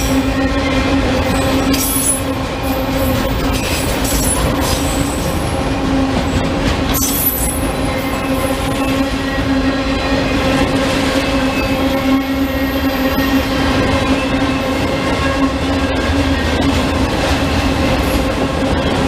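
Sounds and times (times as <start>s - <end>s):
railcars rumbling on track: 0.0s - 19.0s.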